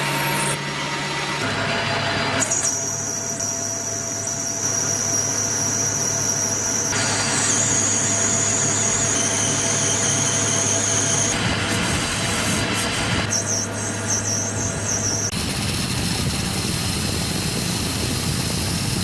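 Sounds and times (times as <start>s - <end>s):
high-pitched whine: 0.0s - 19.0s
power tool running: 0.0s - 19.0s.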